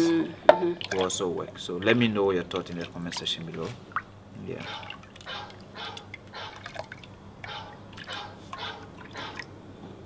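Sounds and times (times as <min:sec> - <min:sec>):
liquid pouring into metal pot: 0:00.7 - 0:09.4.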